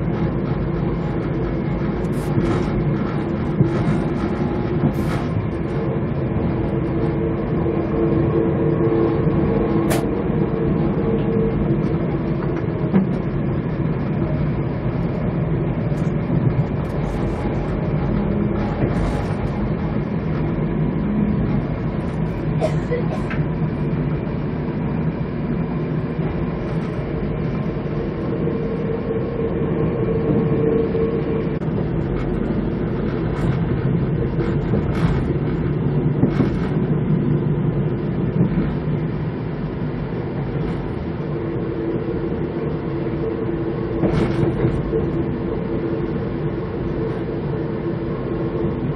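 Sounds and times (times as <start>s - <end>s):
train rumble from inside: 0.0s - 48.9s.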